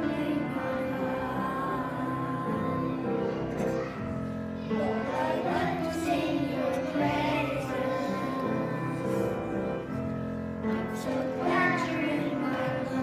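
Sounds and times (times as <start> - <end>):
children singing a worship song: 0.0 - 13.0.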